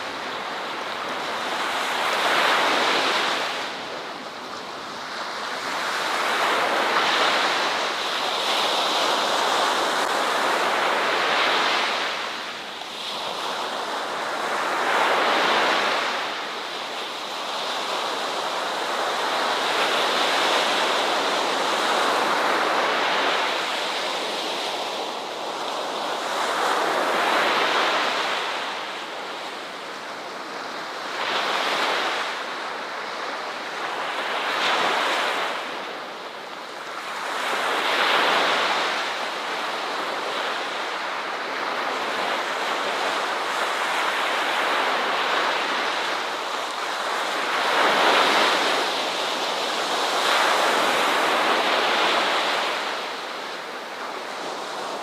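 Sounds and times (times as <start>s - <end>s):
ocean waves breaking on shore: 0.0s - 55.0s
wind: 0.0s - 55.0s.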